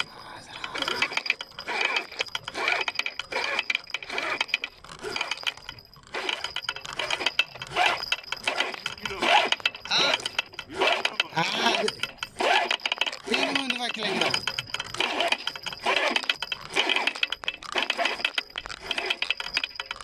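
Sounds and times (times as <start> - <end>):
fishing reel ratcheting clicks: 0.0 - 20.0.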